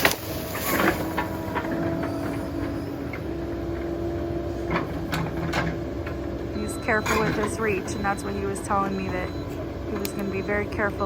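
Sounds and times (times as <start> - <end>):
excavator diesel rumble: 0.0 - 11.0
held whine: 0.0 - 11.0.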